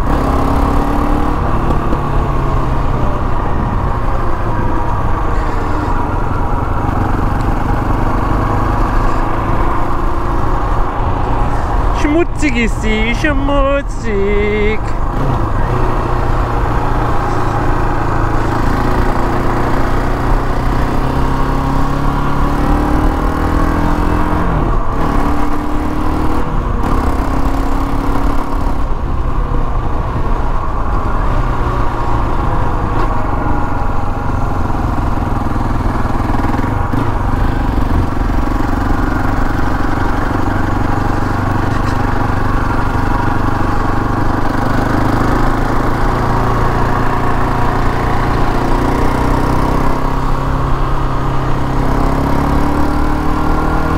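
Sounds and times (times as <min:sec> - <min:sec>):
quad engine running: 0:00.0 - 0:29.1, 0:30.1 - 0:53.9.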